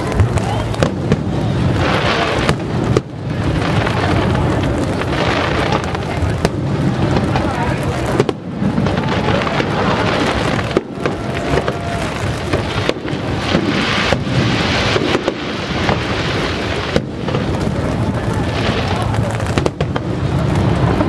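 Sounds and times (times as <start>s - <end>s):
continuous crackling: 0.0s - 21.0s
firework shells booming: 0.0s - 21.0s.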